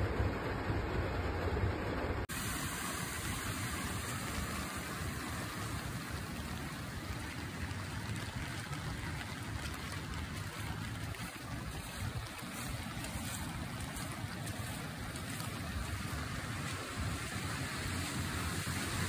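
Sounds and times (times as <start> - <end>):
floodwater running along street: 0.0 - 19.0
heavy rain: 1.8 - 19.0.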